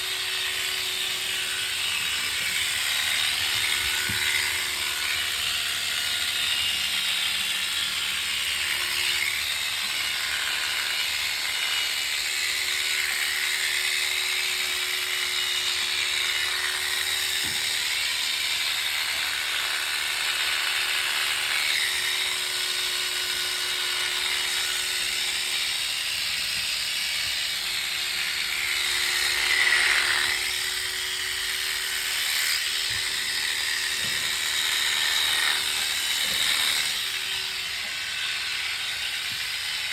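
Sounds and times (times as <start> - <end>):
electric shearing clippers running: 0.0 - 39.9.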